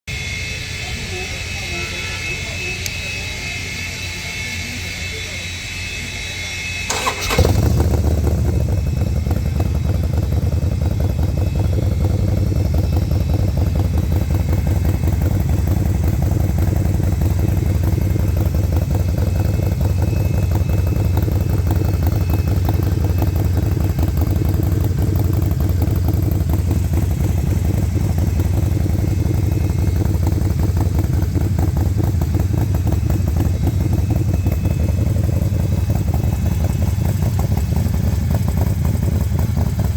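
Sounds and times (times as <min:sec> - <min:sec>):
motorcycle engine idling: 0:00.1 - 0:39.9
motorcycle engine starting: 0:06.8 - 0:39.9.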